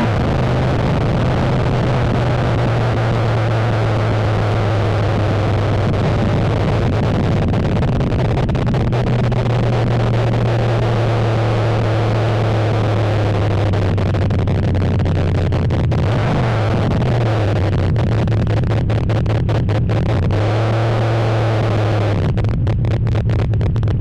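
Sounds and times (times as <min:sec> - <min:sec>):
pickup truck engine droning: 0:00.0 - 0:24.0.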